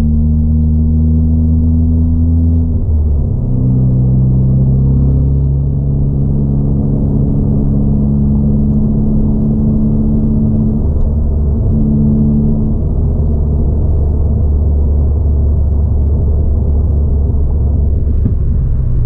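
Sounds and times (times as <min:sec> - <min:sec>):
muffled car engine from cabin: 0:00.0 - 0:19.0.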